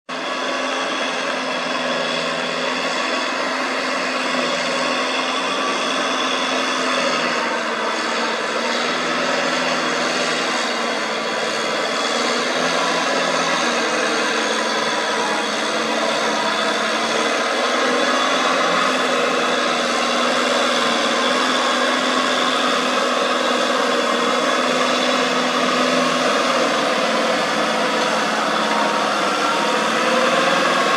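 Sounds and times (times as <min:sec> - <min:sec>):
tractor engine running under load: 0:00.1 - 0:30.9.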